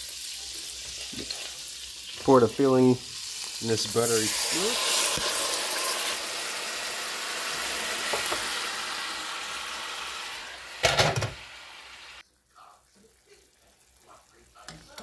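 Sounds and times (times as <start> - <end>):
apple pieces sizzling in a pot: 0.0 - 15.0.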